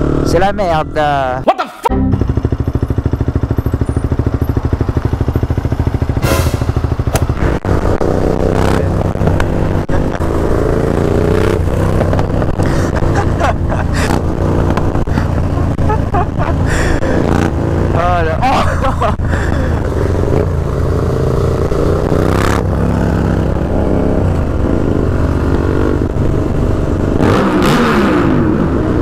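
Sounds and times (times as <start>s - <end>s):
motorcycle engine revving: 0.0s - 1.4s, 2.0s - 29.0s.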